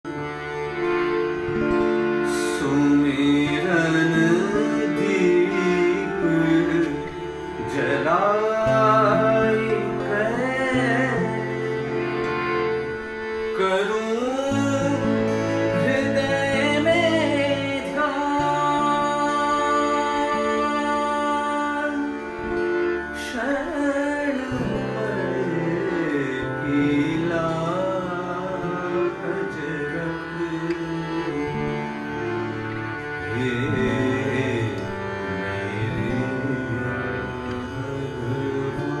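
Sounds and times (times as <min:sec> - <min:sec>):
harmonium sustained notes: 0:00.0 - 0:39.0
man singing: 0:02.2 - 0:12.1, 0:13.4 - 0:39.0.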